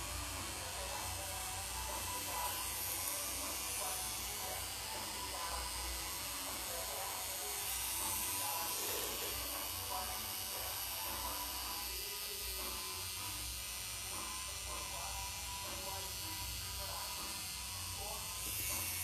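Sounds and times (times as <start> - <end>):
tattoo machine buzzing: 0.0 - 19.0.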